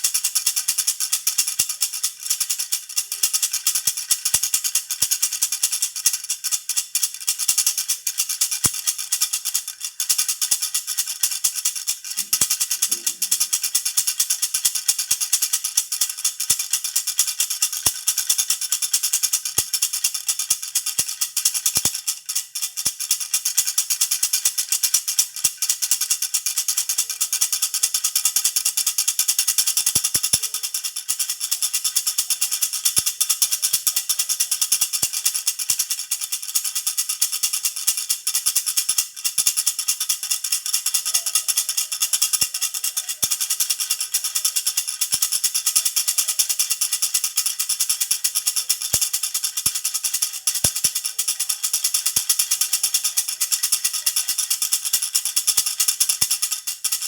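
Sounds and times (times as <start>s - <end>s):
baby rattle shaken: 0.0s - 57.0s.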